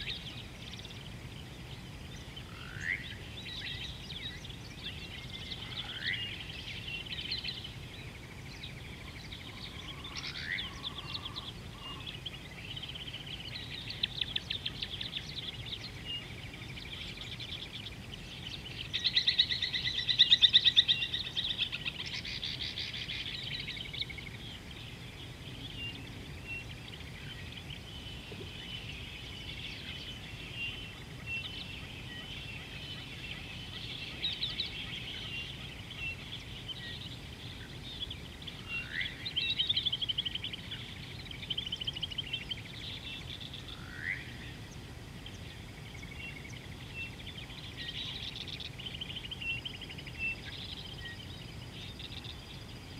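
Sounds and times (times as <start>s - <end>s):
birds chirping and trilling: 0.0s - 52.9s
low background noise: 0.0s - 52.9s.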